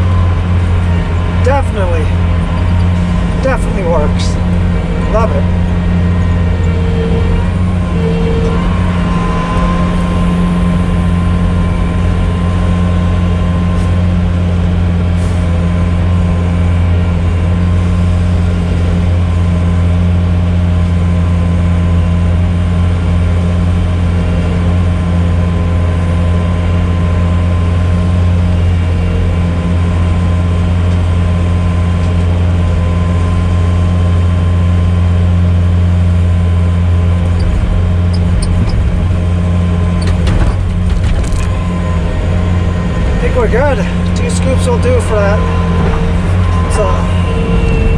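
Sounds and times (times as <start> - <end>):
loader engine running: 0.0 - 47.9.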